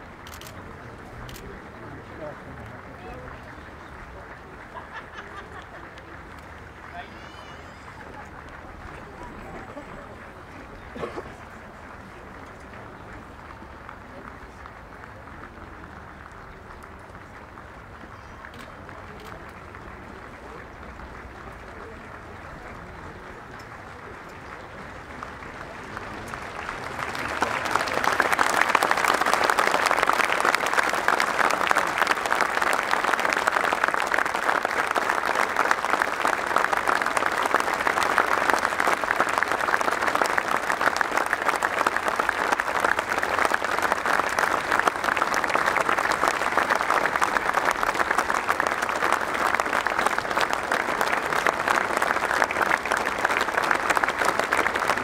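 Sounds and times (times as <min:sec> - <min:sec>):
stadium crowd applauding: 0:00.0 - 0:55.0.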